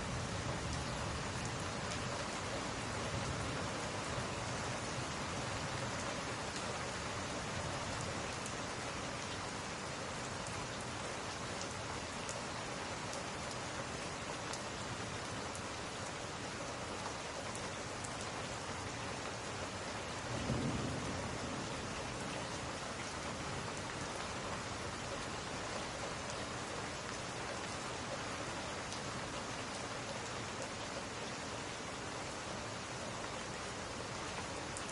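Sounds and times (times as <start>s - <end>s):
rain on glass: 0.0s - 34.9s.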